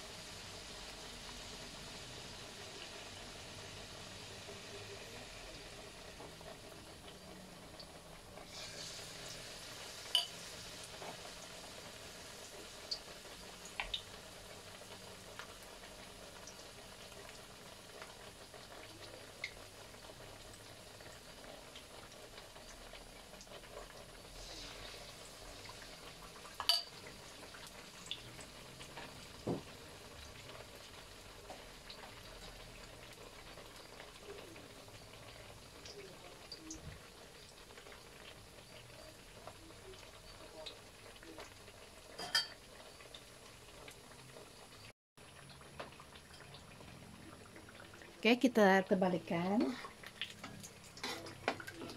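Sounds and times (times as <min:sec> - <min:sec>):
deep-frying oil sizzling: 0:00.0 - 0:51.9.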